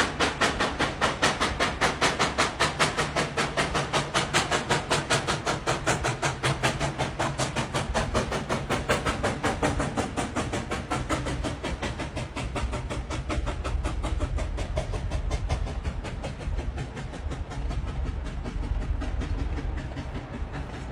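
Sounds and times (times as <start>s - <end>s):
old train running: 0.0s - 20.9s.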